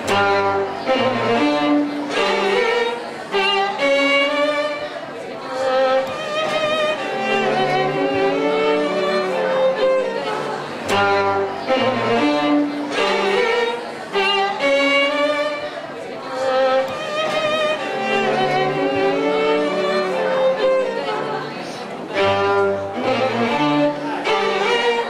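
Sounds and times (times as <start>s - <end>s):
string quartet playing: 0.0s - 25.0s.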